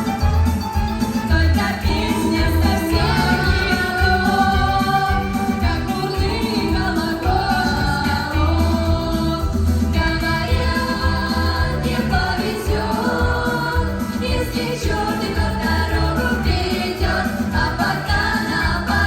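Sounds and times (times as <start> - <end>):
song with bass beat: 0.0 - 19.0.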